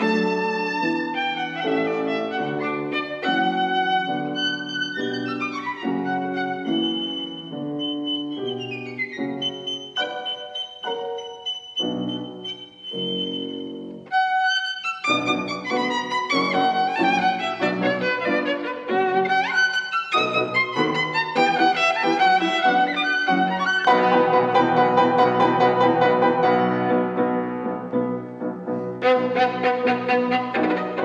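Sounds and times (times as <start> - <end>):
violin and piano music: 0.0 - 31.0.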